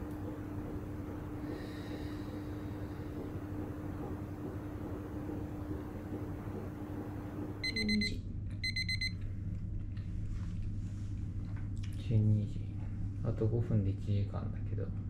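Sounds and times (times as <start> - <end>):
low hum: 0.0 - 13.4.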